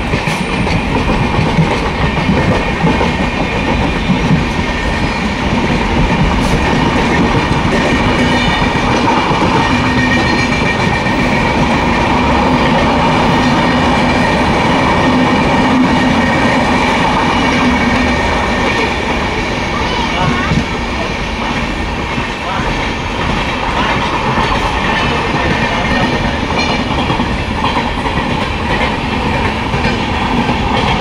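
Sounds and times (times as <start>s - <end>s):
trains rumbling on tracks: 0.0s - 31.0s.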